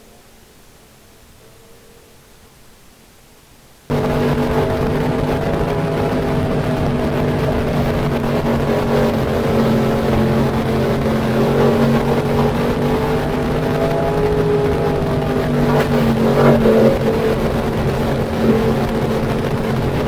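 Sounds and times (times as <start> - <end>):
race car engines droning: 3.9 - 20.0.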